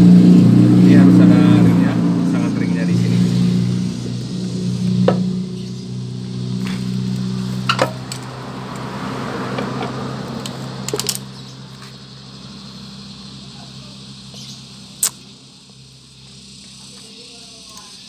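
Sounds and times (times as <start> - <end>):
steady low hum: 0.0 - 8.8, 10.0 - 18.0.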